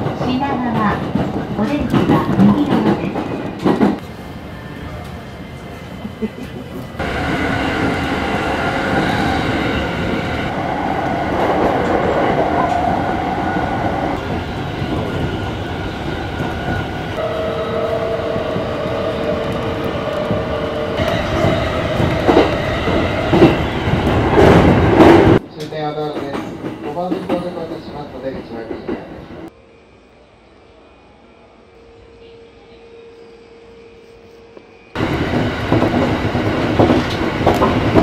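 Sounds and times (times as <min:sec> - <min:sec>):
electric train whine: 0:03.4 - 0:25.4, 0:28.9 - 0:38.0.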